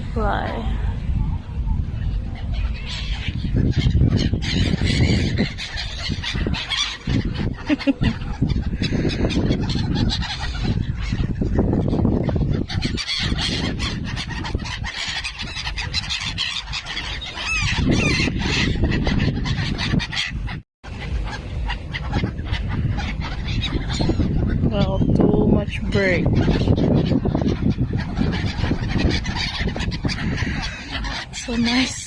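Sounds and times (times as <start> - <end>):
seabirds and crows calling: 0.0 - 32.0
steady low rumble: 0.0 - 32.0
gliding bird calls: 0.3 - 32.0.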